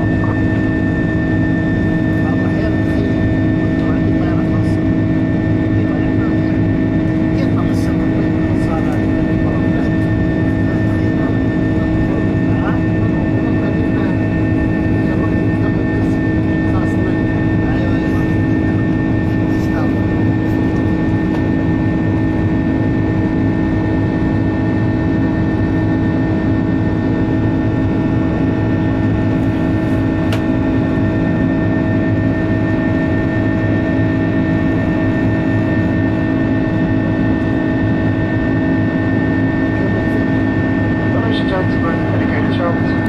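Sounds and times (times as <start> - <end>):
jet engine drone in cabin: 0.0 - 43.0.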